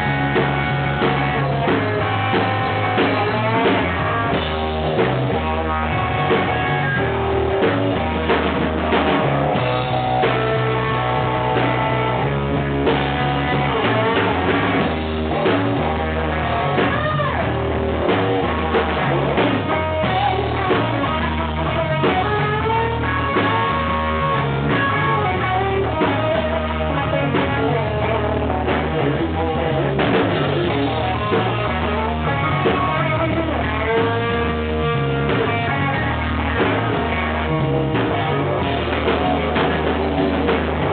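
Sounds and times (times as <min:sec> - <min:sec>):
blues band playing: 0:00.0 - 0:40.9
sliding electric guitar notes: 0:00.0 - 0:40.9.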